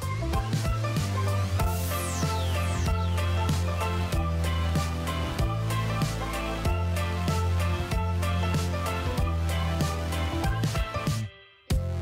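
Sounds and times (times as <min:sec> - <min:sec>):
held bass: 0:00.0 - 0:12.0.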